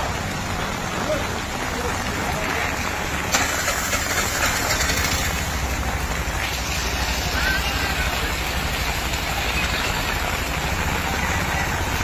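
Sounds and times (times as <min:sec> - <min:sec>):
heavy rain hiss: 0:00.0 - 0:12.0
vehicle engine idling: 0:00.0 - 0:12.0.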